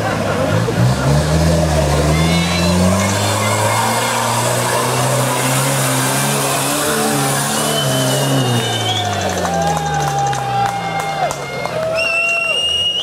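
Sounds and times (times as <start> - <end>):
engine running hard under load: 0.0 - 11.7.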